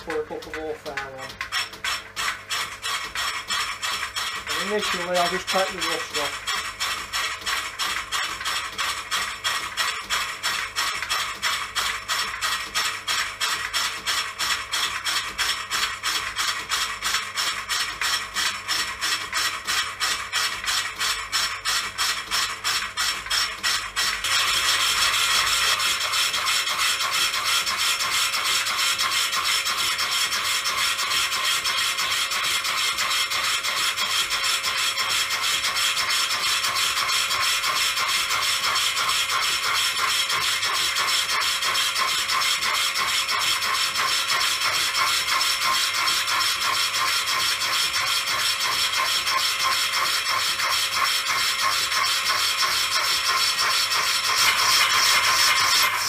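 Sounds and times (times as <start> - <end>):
cutting tool scraping metal drum: 0.0 - 56.0.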